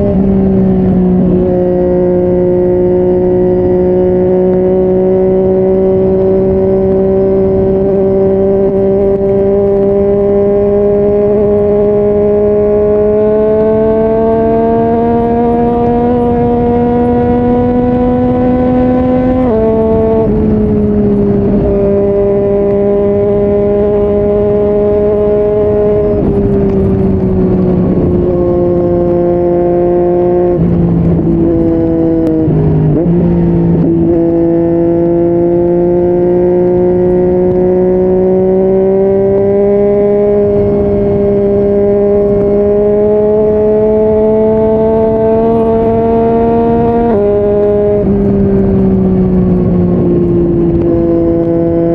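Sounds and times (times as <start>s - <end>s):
motorcycle engine at road speed: 0.0s - 51.9s.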